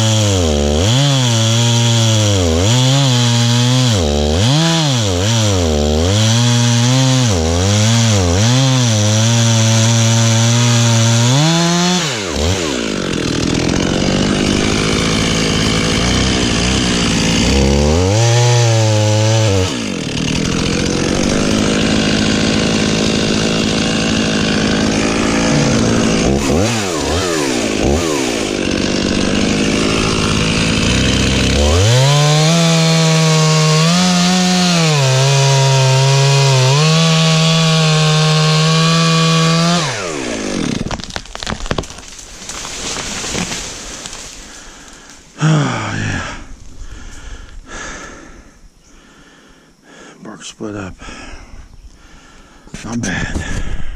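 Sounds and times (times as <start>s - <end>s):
chainsaw cutting wood: 0.0s - 48.4s.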